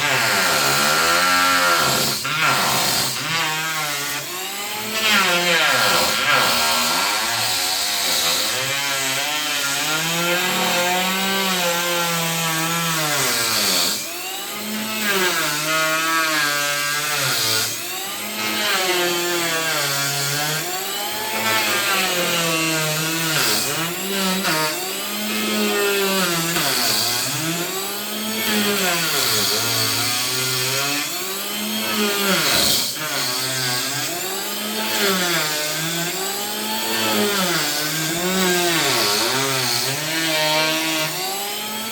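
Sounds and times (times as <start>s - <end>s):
electric planer motor: 0.0s - 41.9s
planer blades rasping on wood: 0.0s - 41.9s.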